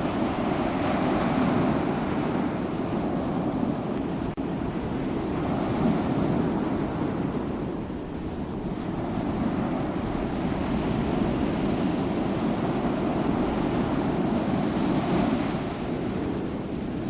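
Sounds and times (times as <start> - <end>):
sea waves washing on shore: 0.0 - 17.0
wind on microphone: 0.0 - 17.0.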